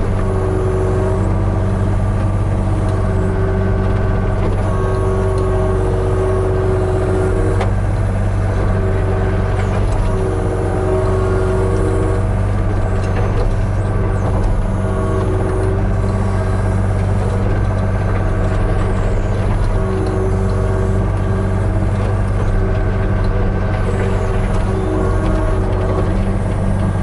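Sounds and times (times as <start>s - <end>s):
excavator diesel engine running: 0.0s - 27.0s
hydraulic whine: 0.0s - 27.0s.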